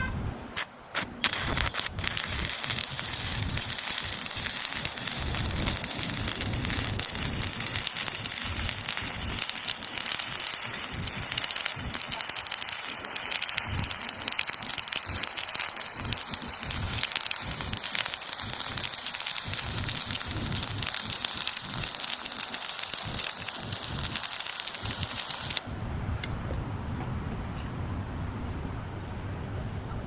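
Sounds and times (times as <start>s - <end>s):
welding arc crackling sizzle: 0.9s - 25.6s.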